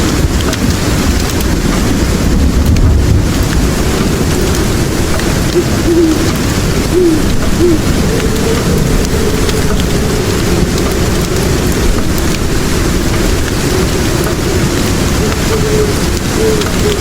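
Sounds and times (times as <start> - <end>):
fire crackling: 0.0 - 17.0
heavy rain: 0.0 - 17.0
low continuous rumble: 0.0 - 17.0.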